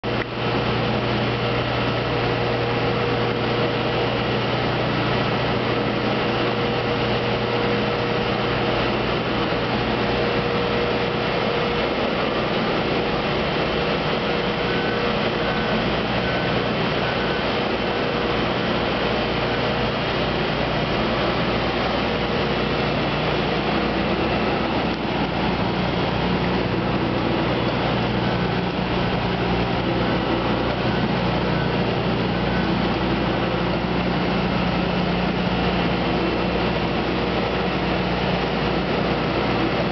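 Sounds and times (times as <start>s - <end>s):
machinery drone: 0.0s - 39.9s.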